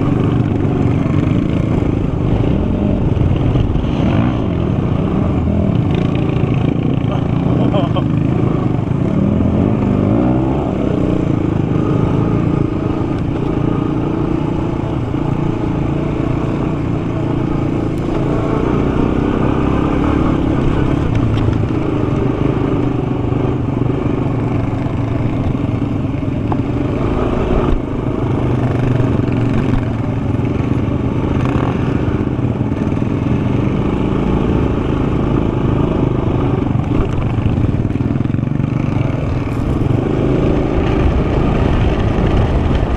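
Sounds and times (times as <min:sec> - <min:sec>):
atv engine running: 0:00.0 - 0:42.9
low wind rumble: 0:00.0 - 0:42.9.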